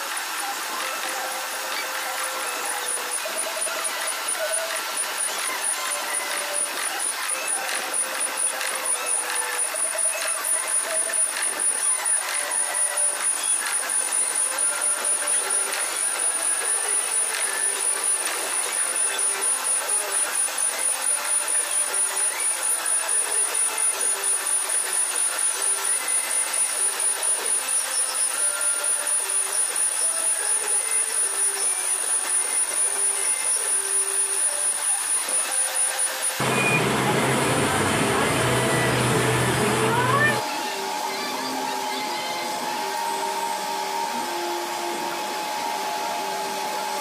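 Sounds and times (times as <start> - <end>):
thin high whine: 0.0 - 47.0
milling machine cutting: 0.2 - 40.4.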